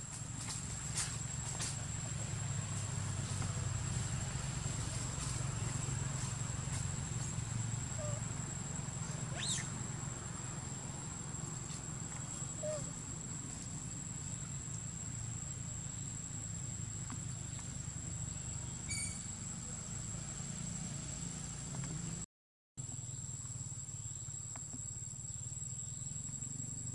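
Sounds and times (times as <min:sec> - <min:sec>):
forest insects droning: 0:00.0 - 0:26.9.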